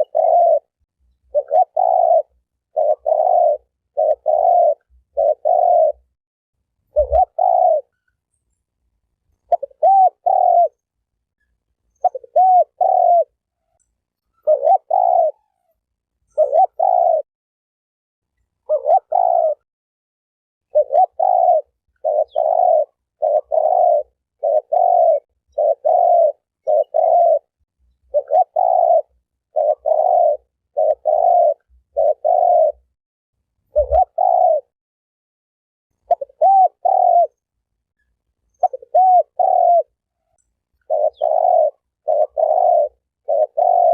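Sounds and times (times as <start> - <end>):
dove cooing: 0.0 - 6.1, 6.9 - 8.1, 9.4 - 10.8, 11.9 - 17.3, 18.6 - 19.6, 20.7 - 32.9, 33.7 - 34.7, 36.0 - 37.5, 38.5 - 43.9.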